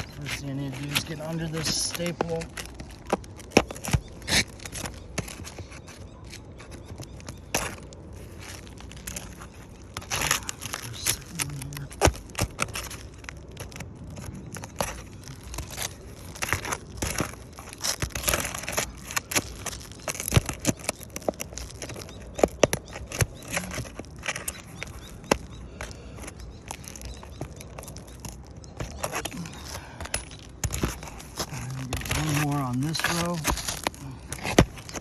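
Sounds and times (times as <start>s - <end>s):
shingles crackling and tearing: 0.0s - 35.0s
tool scraping under shingles: 0.0s - 35.0s.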